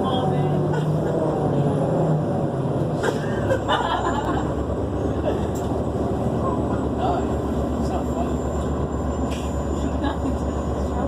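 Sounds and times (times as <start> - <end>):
bus drivetrain droning: 0.0 - 11.0.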